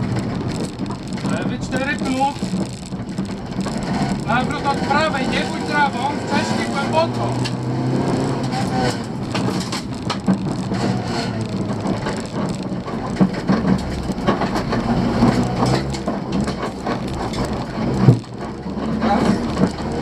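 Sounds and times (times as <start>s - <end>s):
car engine running: 0.0s - 20.0s
gravel rattling against underbody: 0.0s - 20.0s.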